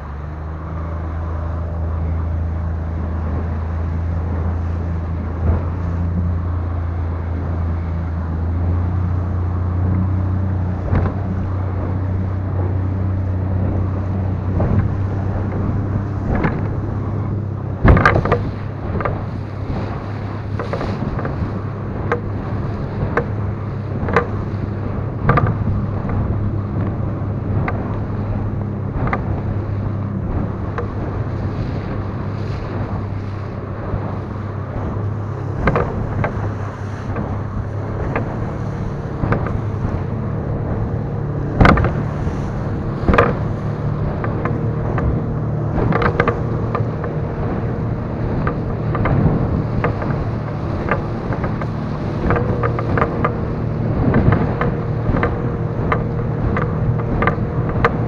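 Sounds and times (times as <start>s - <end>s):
hull slapping water: 0.0s - 58.0s
outboard motor running: 0.0s - 58.0s
wind on microphone: 0.0s - 58.0s.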